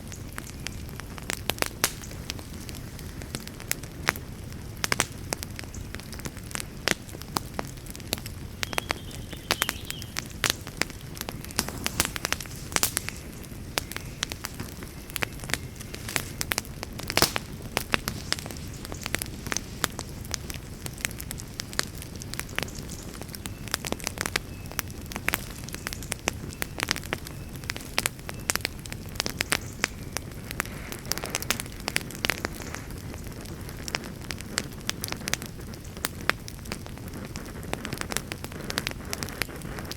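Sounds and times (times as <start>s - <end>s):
burning wood crackling: 0.0s - 39.9s
flames rumbling: 0.0s - 39.9s.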